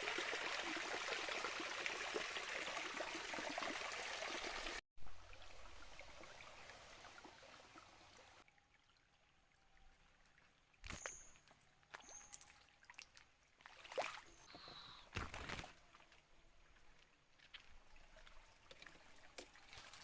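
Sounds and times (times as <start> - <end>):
stream trickling over stones: 0.0 - 20.0.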